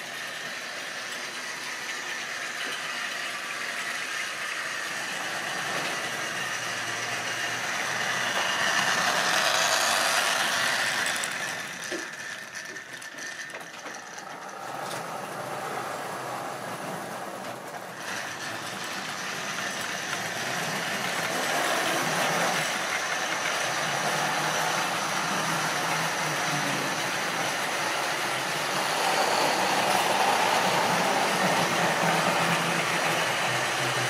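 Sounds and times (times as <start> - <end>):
model trains rattling along track: 0.0 - 34.0.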